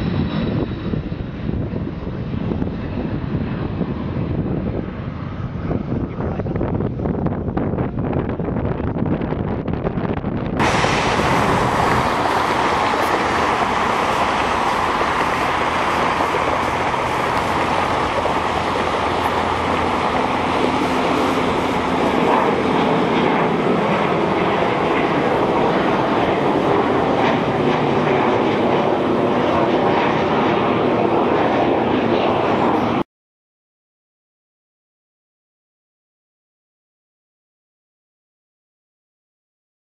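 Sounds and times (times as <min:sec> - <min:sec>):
jet engines at high thrust: 0:00.0 - 0:33.1.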